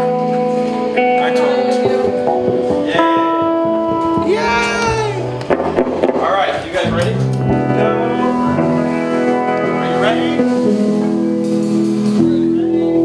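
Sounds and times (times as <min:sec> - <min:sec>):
live band with electric guitars: 0:00.0 - 0:13.0.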